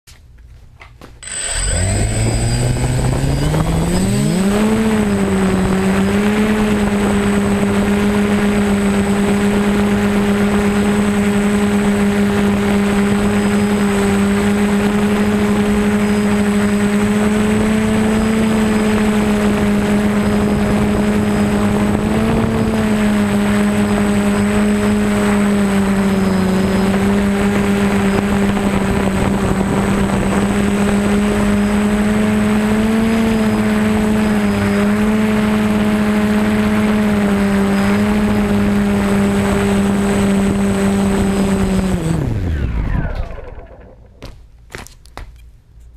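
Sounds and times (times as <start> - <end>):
drone propellers buzzing: 1.2 - 44.6.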